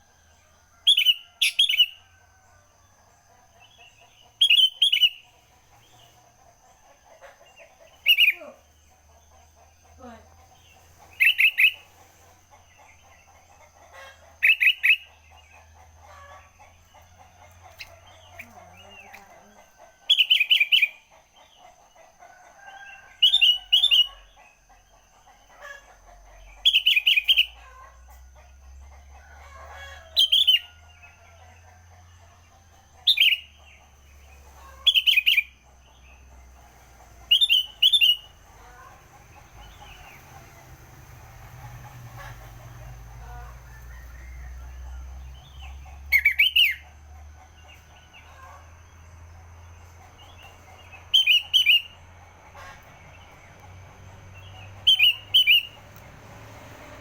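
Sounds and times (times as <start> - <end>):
faint bird chatter: 0.0 - 28.2, 29.4 - 47.0.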